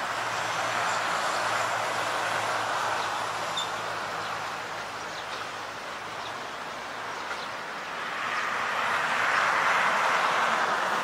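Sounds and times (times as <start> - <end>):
passing road traffic hiss: 0.0 - 11.0.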